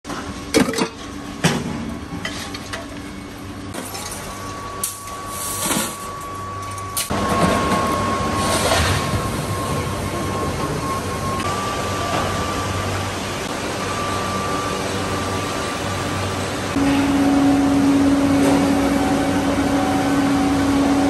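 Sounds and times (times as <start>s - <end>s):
steady industrial noise: 0.1s - 21.0s.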